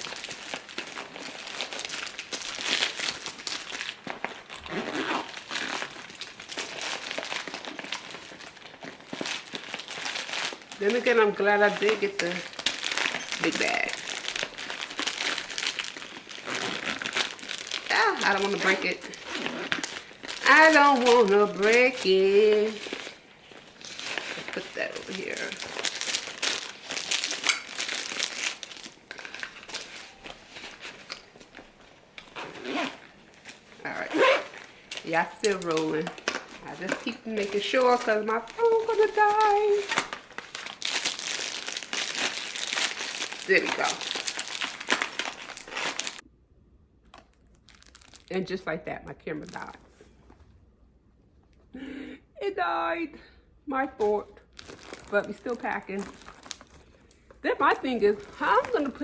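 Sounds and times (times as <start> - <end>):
plastic crinkling and rustling: 0.0 - 46.2, 47.1 - 50.6, 54.0 - 59.0.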